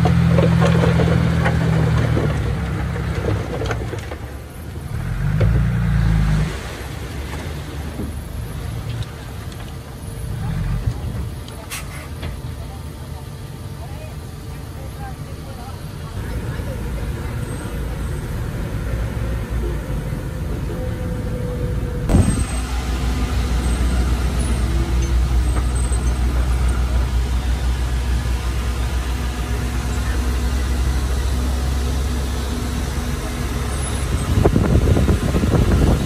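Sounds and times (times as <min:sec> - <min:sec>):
diesel machinery engine drone: 0:00.0 - 0:36.0.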